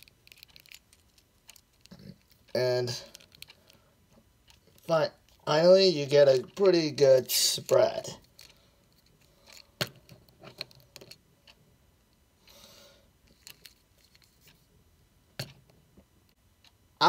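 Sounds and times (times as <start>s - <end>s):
soft hiss: 0.0s - 17.0s.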